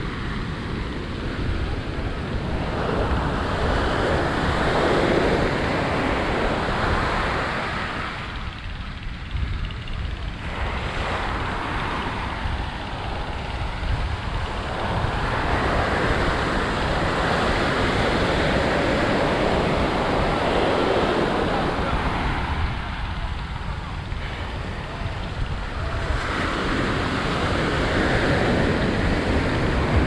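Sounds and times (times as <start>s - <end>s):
ocean surf breaking: 0.0s - 30.0s
wind on microphone: 0.0s - 30.0s.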